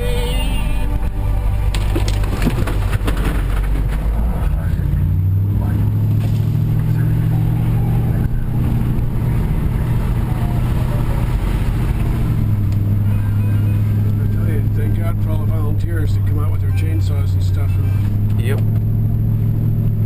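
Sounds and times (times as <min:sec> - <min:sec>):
road noise: 0:00.0 - 0:20.0
truck engine: 0:00.0 - 0:20.0.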